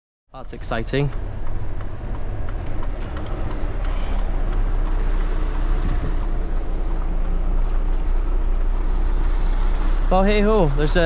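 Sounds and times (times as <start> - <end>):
road noise: 0.3 - 11.0
lorry engine rumble: 0.4 - 11.0.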